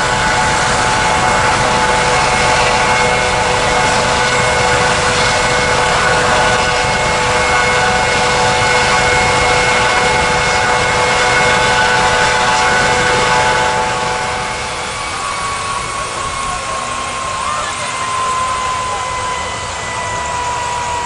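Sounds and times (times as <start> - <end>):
high whine: 0.0 - 21.0
large vehicle engine running: 0.0 - 21.0
noisy rush: 0.0 - 21.0.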